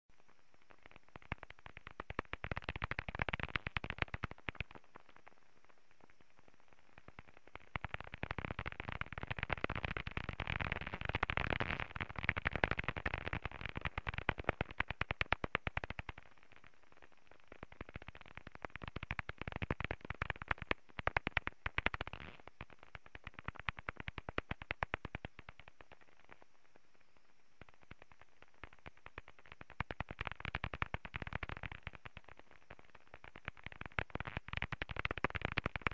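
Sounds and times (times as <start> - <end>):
low hiss: 0.1 - 35.9.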